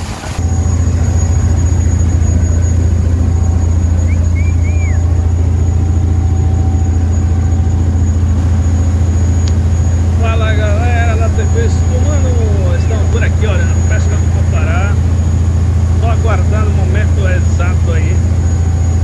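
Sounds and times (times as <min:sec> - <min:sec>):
boat engine drone: 0:00.0 - 0:19.0
water churning in wake: 0:00.0 - 0:19.0.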